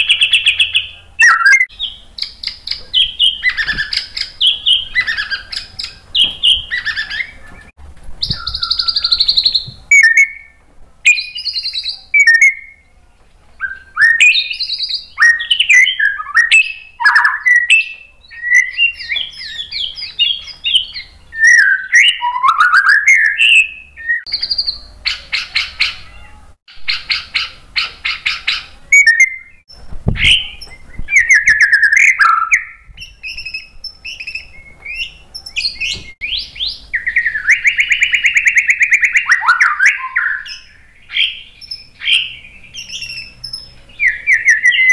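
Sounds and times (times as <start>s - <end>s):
bird singing whistled song: 0.0s - 12.9s, 13.6s - 44.9s.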